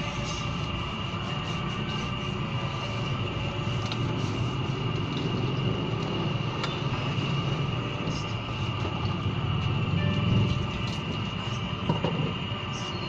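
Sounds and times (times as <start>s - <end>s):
high-pitched hum: 0.0s - 13.0s.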